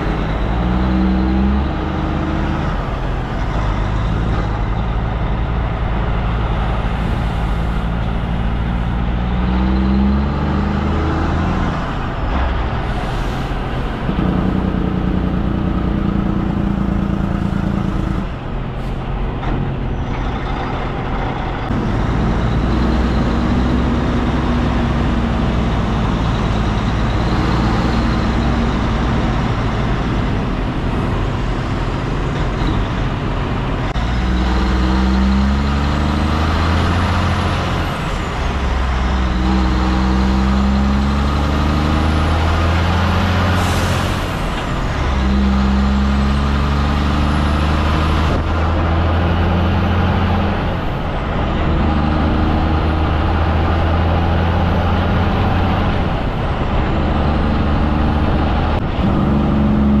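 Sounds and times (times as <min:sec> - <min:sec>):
truck diesel engine accelerating: 0:00.0 - 1:00.0.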